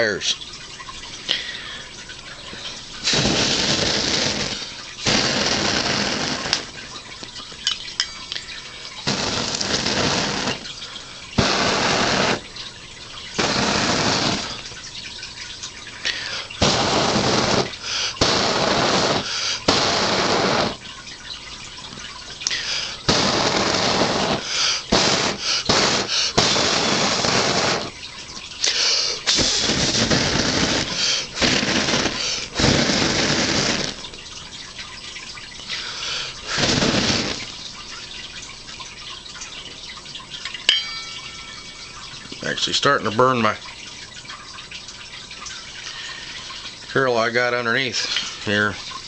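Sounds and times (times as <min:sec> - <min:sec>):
water rushing in bursts: 0:00.0 - 0:49.0.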